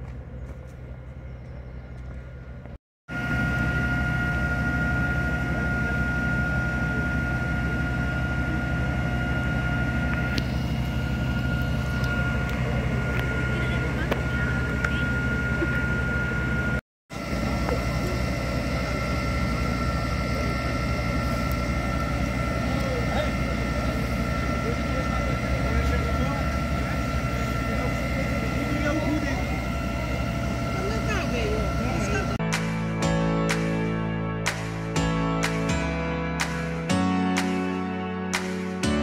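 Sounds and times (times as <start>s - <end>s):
fire engine engine drone: 0.0s - 39.0s
fire engine pump whine: 0.0s - 39.0s.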